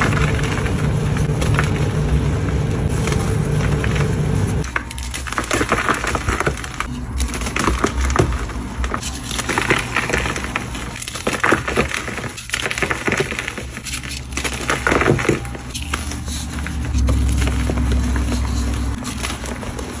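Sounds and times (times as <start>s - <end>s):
gritty crunching and scraping: 0.0s - 20.0s.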